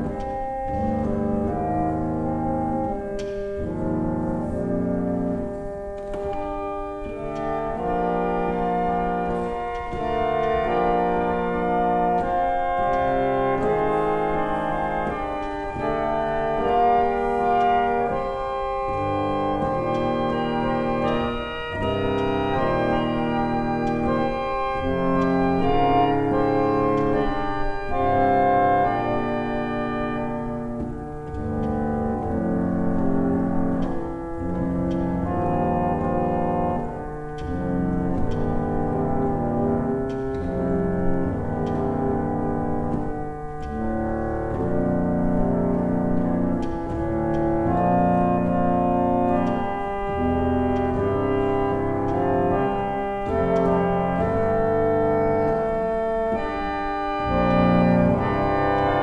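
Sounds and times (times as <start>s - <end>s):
reed organ playing hymn chords: 0.0s - 59.0s.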